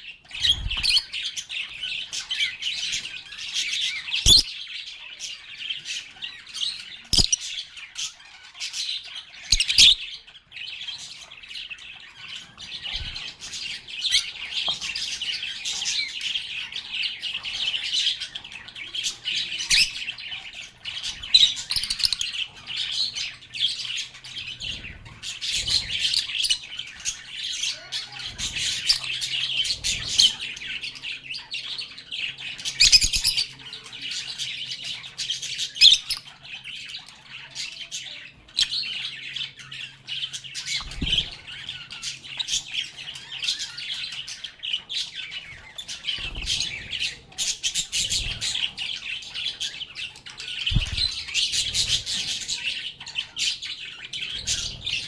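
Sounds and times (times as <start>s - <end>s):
lovebirds chirping and squawking: 0.0s - 55.0s.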